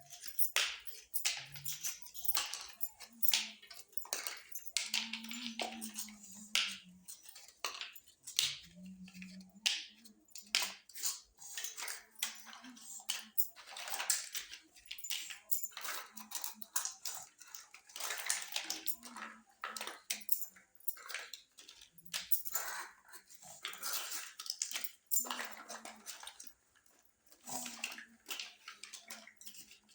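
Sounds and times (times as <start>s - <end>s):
plastic toy pieces clicking: 0.0s - 29.9s.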